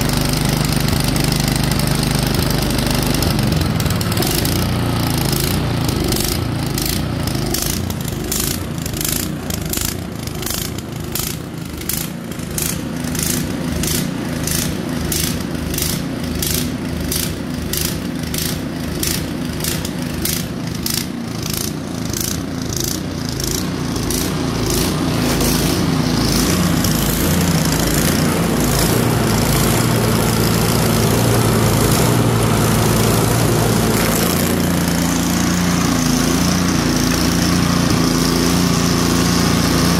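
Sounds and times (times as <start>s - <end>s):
snow blower auger spinning: 0.0s - 39.9s
snow blower engine running: 0.0s - 39.9s.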